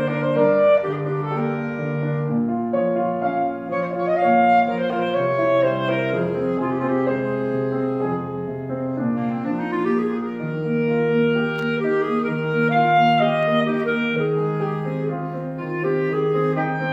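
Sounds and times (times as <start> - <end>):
clarinet melody: 0.0 - 16.9
piano accompaniment: 0.0 - 16.9.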